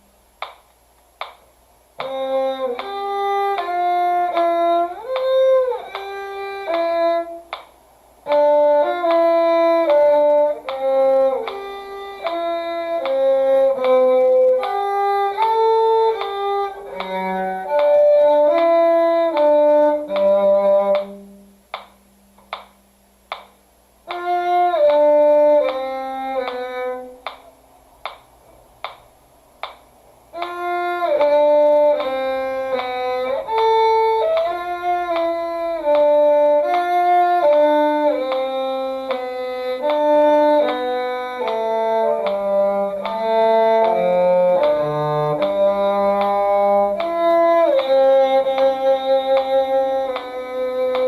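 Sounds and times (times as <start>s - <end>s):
violin and cello duet: 2.0s - 21.5s, 24.1s - 27.4s, 30.3s - 51.0s.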